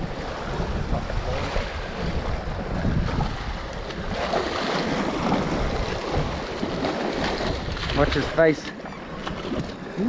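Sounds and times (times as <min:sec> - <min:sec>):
surf washing against rocks: 0:00.0 - 0:08.6
wind buffeting microphone: 0:00.0 - 0:09.9.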